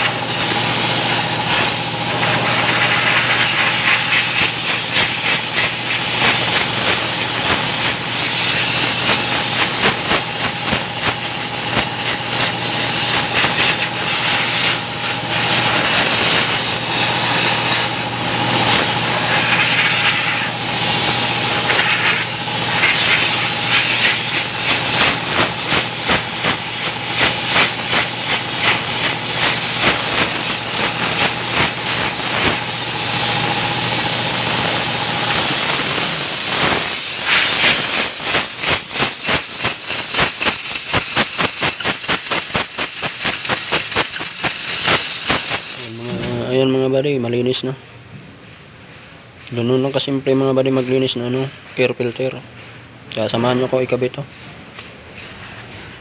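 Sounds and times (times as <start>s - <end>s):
compressed air hissing in bursts: 0.0s - 46.5s
steady mechanical hum: 0.0s - 56.0s.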